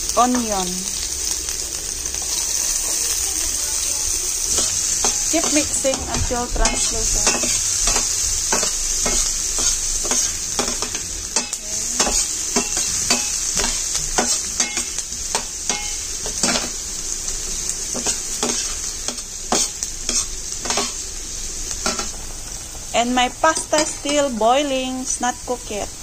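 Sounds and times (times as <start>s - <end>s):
onion sizzling in oil: 0.0s - 26.0s.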